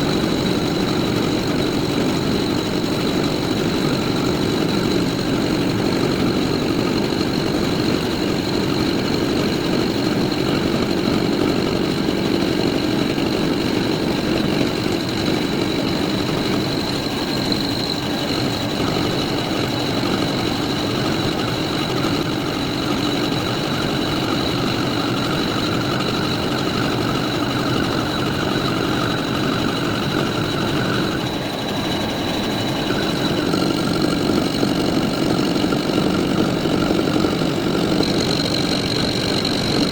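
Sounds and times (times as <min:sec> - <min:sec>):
high whine: 0:00.0 - 0:39.9
metal lathe running: 0:00.0 - 0:39.9.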